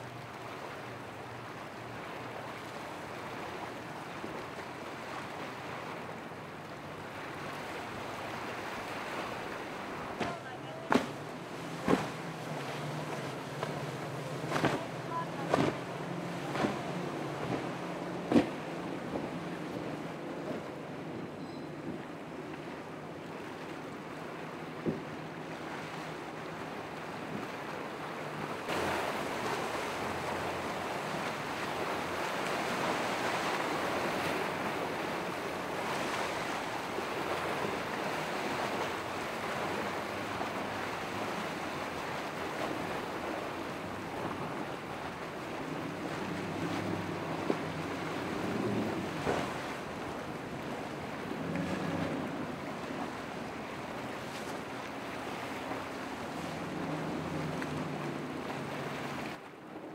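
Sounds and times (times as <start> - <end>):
outboard motors droning: 0.0 - 59.9
waves and churning water: 0.0 - 59.9.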